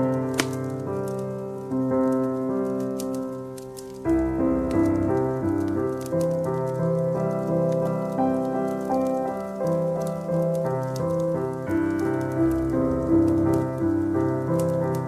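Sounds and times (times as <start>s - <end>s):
burning logs crackling: 0.0s - 15.0s
gentle piano music: 0.0s - 15.0s.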